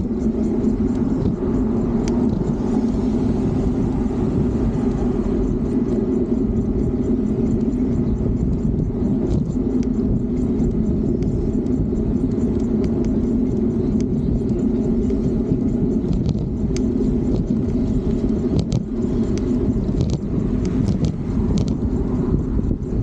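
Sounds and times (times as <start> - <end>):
electric bike road noise: 0.0 - 23.0
wind rumble on microphone: 0.0 - 23.0.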